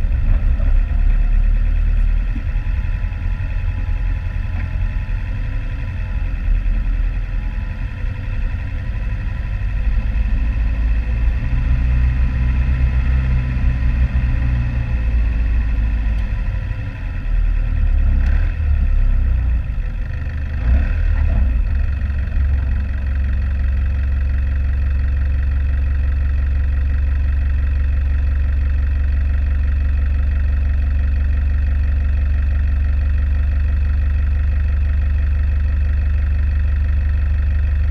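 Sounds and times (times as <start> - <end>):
vehicle engine running: 0.0 - 37.9.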